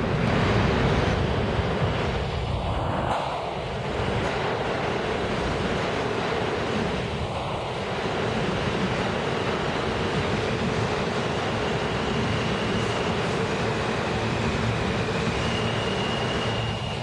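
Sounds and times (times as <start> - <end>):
subway train passing: 0.0 - 17.0.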